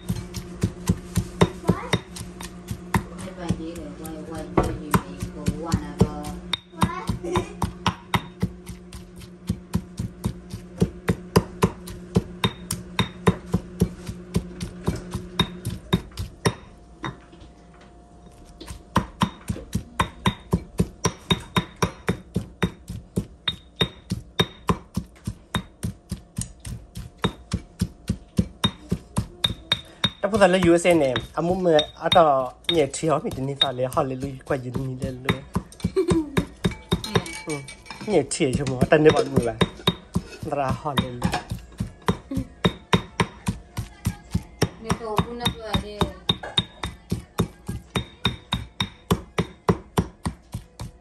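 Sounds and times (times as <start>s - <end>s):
stone pestle pounding in mortar: 0.0s - 17.2s, 18.4s - 51.0s.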